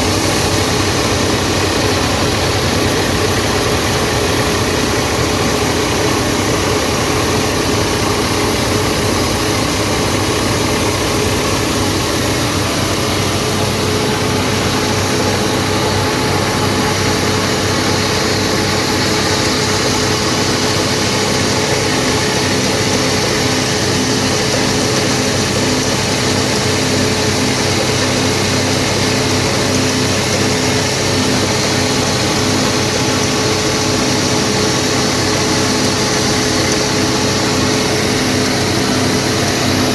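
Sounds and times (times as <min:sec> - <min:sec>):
grain cleaning machine droning: 0:00.0 - 0:39.9.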